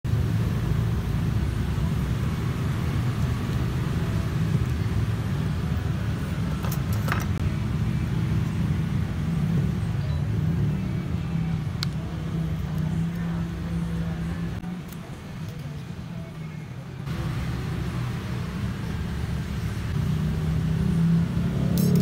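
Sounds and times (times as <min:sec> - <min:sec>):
low traffic-like rumble: 0:00.0 - 0:22.0.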